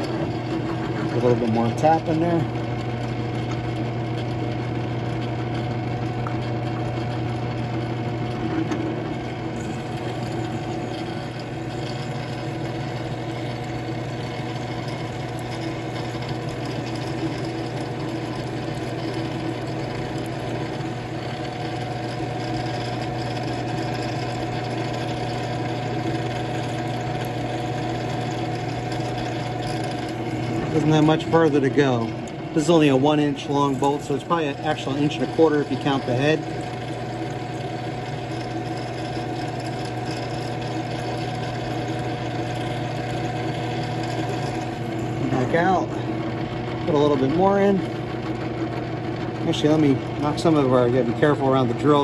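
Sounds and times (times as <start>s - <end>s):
drill press boring through steel: 0.0s - 6.2s, 7.0s - 52.0s.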